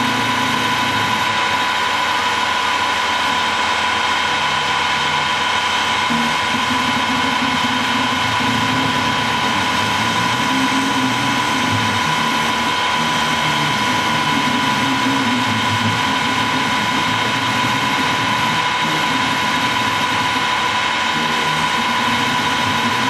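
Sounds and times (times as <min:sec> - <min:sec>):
lathe running with whine: 0:00.0 - 0:23.0.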